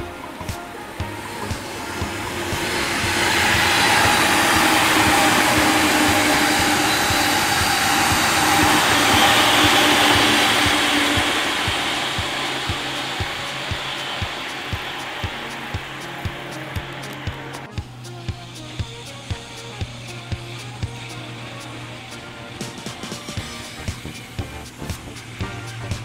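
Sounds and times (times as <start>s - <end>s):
faint motor hum: 0.0s - 26.0s
train wheels rushing on rails: 0.0s - 26.0s.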